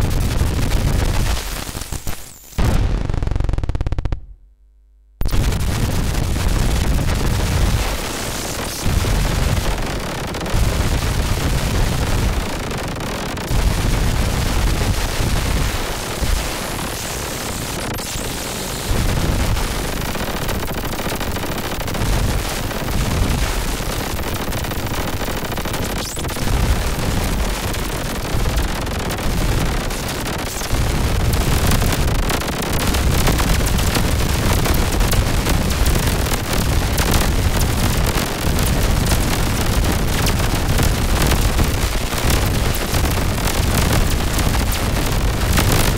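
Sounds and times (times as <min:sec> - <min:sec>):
crackling synthesizer noise: 0:00.0 - 0:45.9.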